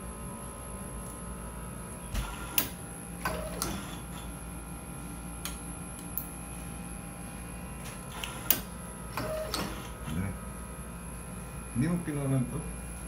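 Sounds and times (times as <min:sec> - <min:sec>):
bench machinery humming: 0:00.0 - 0:13.0.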